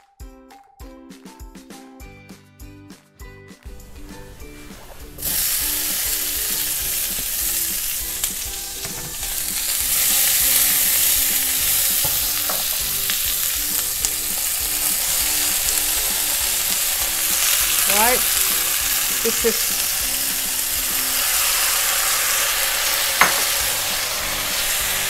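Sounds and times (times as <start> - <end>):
tomatoes sizzling in a frying pan: 3.8 - 25.0.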